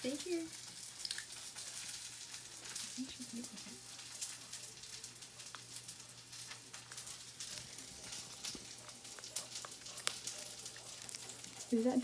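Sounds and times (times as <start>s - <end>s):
puppy chewing crunchy vegetable: 0.5s - 12.0s.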